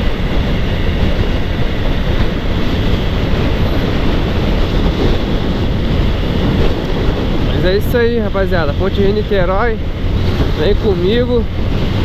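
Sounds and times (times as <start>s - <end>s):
motorcycle road noise: 0.0s - 12.0s
wind rushing over microphone: 0.0s - 12.0s.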